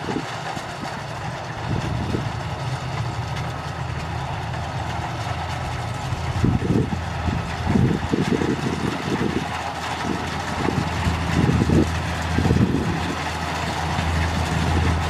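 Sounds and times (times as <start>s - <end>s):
combine harvester engine running: 0.0s - 15.0s
low buffeting: 0.0s - 15.0s.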